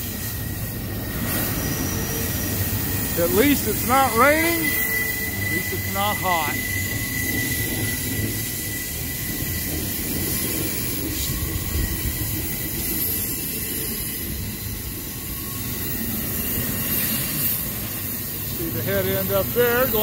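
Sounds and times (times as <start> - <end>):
freight train rumbling: 0.0 - 20.0
wheel squeal: 0.0 - 20.0.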